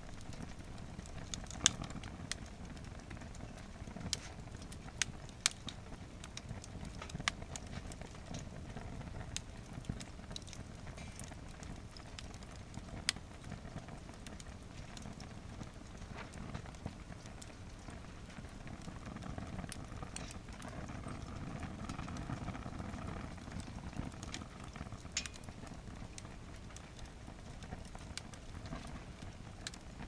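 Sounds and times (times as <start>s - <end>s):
fire crackles and pops: 0.0s - 30.0s
flames rushing: 0.0s - 30.0s.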